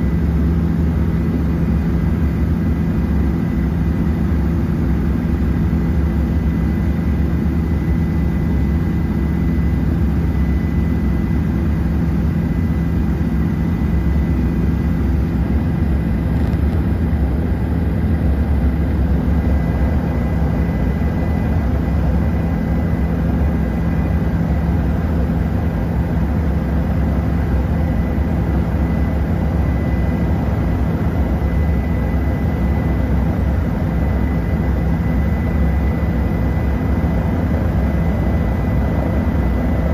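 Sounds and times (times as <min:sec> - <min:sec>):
helicopter rotor and engine drone: 0:00.0 - 0:39.9
thin constant whine: 0:00.0 - 0:39.9.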